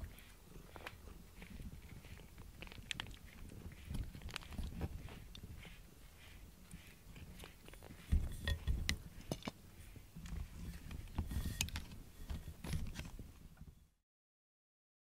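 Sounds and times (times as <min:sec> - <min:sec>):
cat rubbing against microphone: 0:00.0 - 0:13.2.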